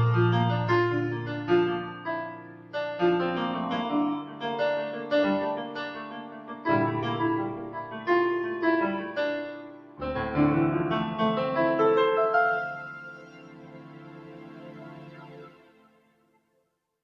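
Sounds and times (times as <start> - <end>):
keyboard piano melody over chords: 0.0 - 15.7.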